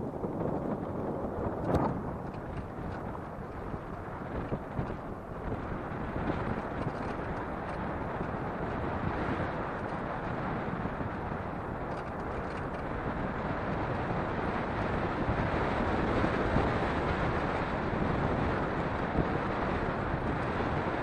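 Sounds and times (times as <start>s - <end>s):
car road noise on dirt road: 0.0s - 21.0s
wind rush: 0.0s - 21.0s.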